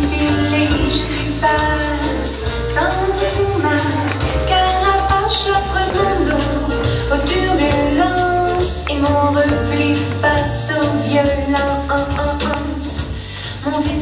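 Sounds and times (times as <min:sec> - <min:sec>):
steady bass line: 0:00.0 - 0:14.0.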